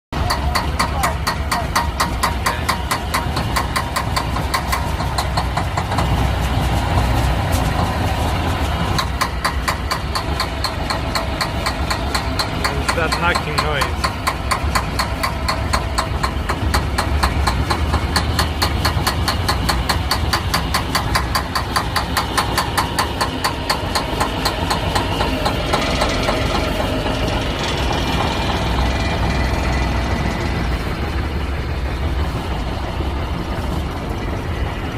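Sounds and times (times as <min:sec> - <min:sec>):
diesel truck engine knocking: 0:00.1 - 0:34.9.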